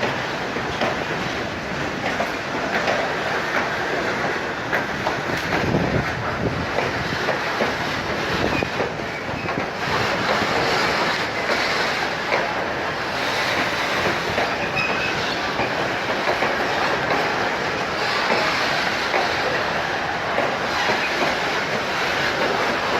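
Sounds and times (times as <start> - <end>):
train rumble: 0.0 - 22.9
train wheels clicking over joints: 0.0 - 22.9.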